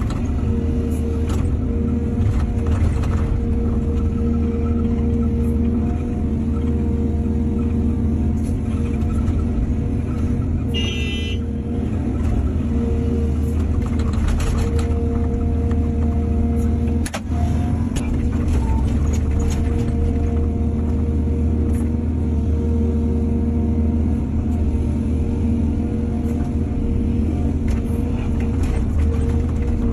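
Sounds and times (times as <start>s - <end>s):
heavy diesel machinery running: 0.0s - 29.9s.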